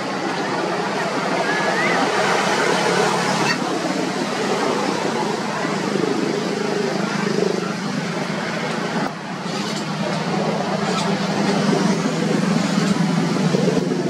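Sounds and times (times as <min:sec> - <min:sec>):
faint indistinct voices: 0:00.0 - 0:14.0
rushing background noise: 0:00.0 - 0:14.0.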